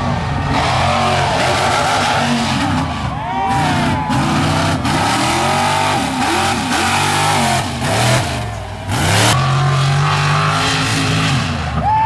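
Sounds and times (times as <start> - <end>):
truck engine revving hard: 0.0 - 11.8.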